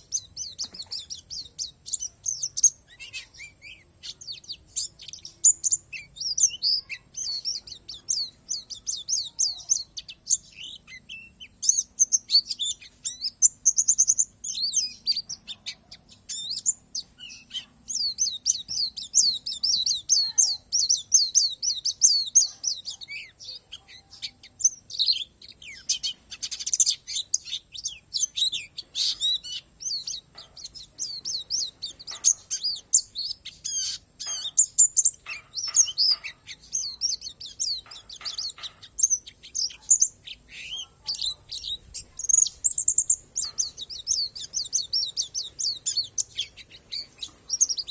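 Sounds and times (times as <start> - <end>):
bird twittering song: 0.0 - 47.9.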